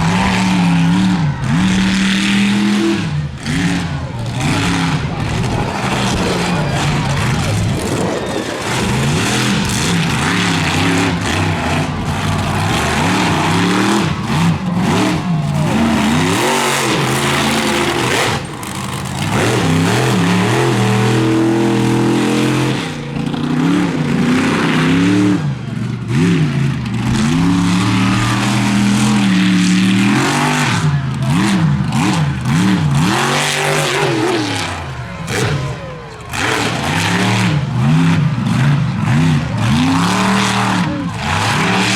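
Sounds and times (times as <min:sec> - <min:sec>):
monster truck engine revving: 0:00.0 - 0:41.9.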